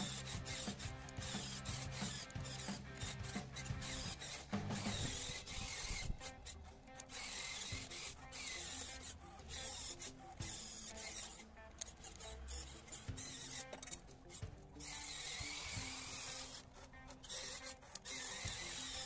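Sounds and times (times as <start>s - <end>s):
background music: 0.0s - 19.0s
toy motors whirring: 0.0s - 19.0s.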